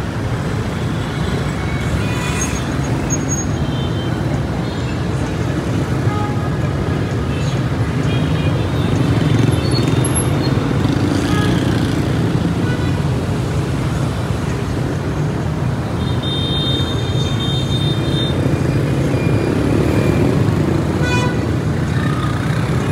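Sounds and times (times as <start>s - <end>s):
street traffic: 0.0s - 22.9s.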